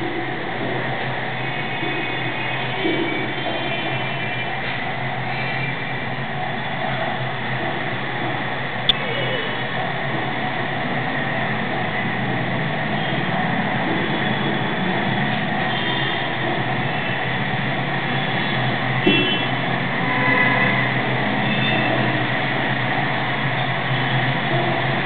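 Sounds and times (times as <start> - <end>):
loud steady noise: 0.0 - 25.0.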